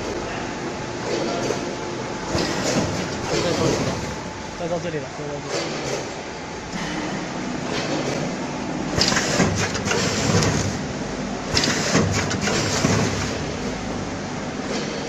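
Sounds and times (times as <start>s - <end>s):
machine clattering and hissing: 0.0s - 15.0s
packing machine running: 0.0s - 15.0s.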